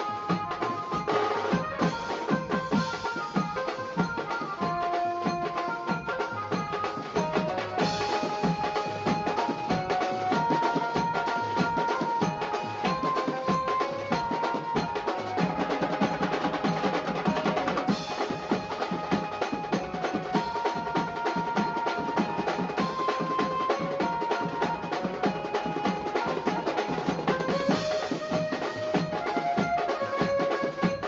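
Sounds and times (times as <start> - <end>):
fast dense drumming: 0.0 - 31.0.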